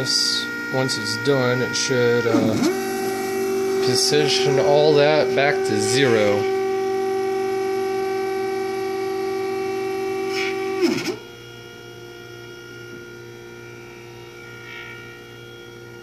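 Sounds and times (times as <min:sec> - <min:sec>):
faint steady hum: 0:00.0 - 0:16.0
stepper motors whining: 0:00.0 - 0:16.0.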